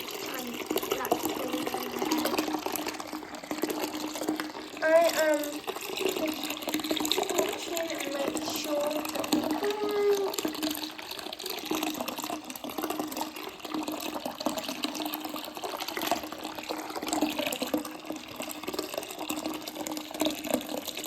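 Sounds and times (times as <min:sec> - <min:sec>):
tap water running into basin: 0:00.0 - 0:21.0.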